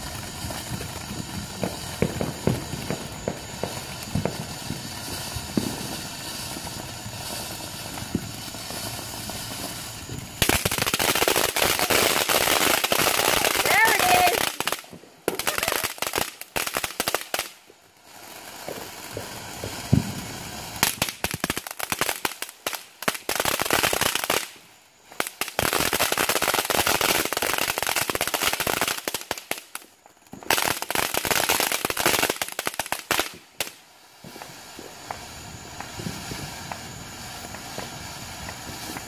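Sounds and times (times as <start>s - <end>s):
fireworks crackling pops: 0.0s - 39.0s.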